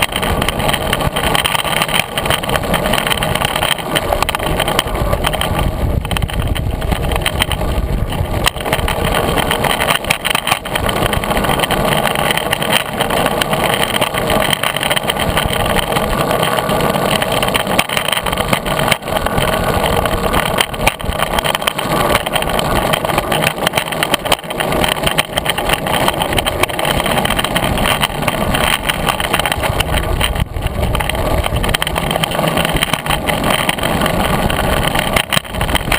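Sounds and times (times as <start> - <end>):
longboard wheels rumbling: 0.0 - 35.9
sharp clicks: 0.0 - 35.9.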